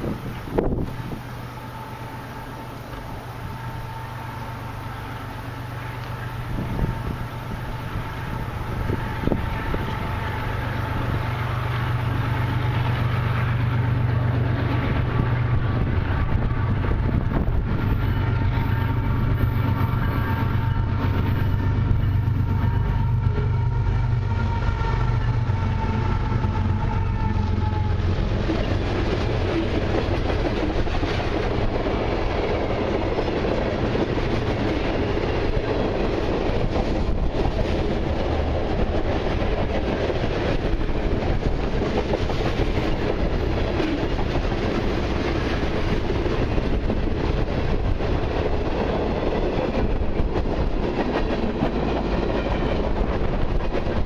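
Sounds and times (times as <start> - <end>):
locomotive low hum: 0.0 - 54.0
train wheels rumbling on rails: 0.0 - 54.0.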